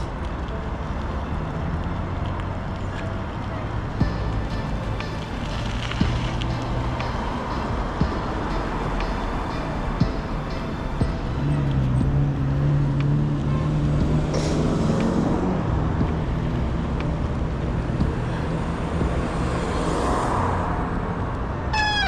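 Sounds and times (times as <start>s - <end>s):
general traffic noise: 0.0s - 22.0s
vehicle engine humming: 0.0s - 22.0s.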